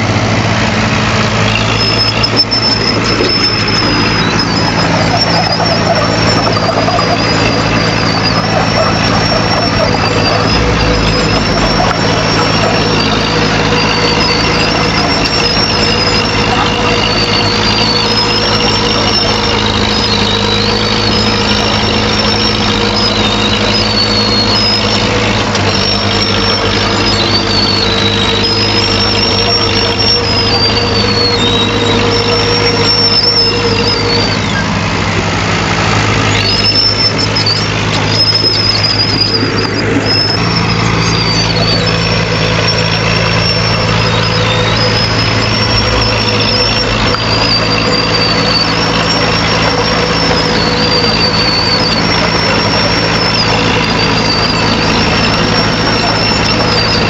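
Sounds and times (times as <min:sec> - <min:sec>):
diesel machine running: 0:00.0 - 0:57.0
high squeal rising and falling: 0:00.0 - 0:57.0.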